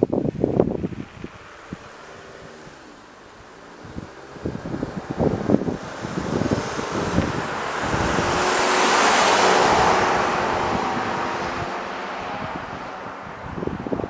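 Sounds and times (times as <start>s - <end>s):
car passing by: 0.8s - 14.0s.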